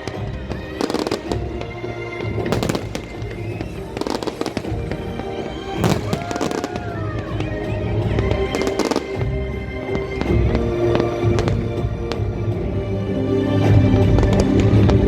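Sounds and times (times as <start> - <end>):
fireworks bangs and crackles: 0.0 - 12.7, 13.6 - 15.0
music: 0.0 - 15.0.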